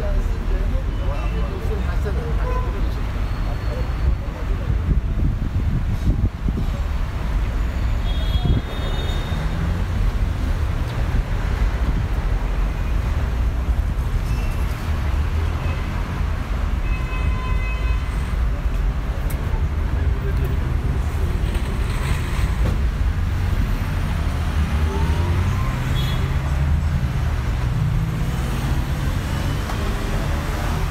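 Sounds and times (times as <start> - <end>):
low traffic rumble: 0.0 - 30.9.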